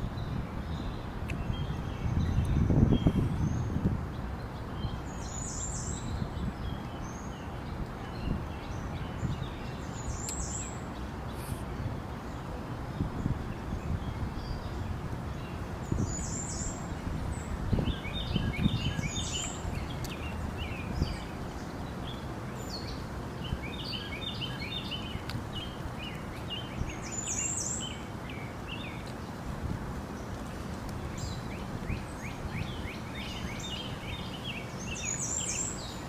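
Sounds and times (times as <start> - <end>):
small birds chirping: 0.1 - 36.0.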